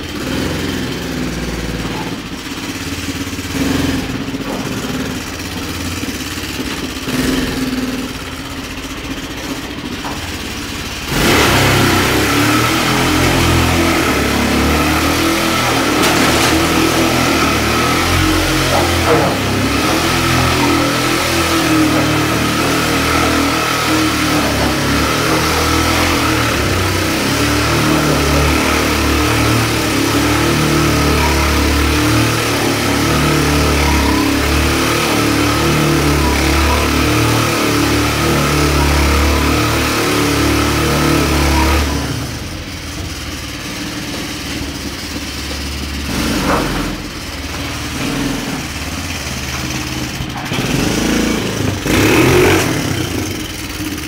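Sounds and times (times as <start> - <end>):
quad engine running at high revs: 0.0 - 54.0.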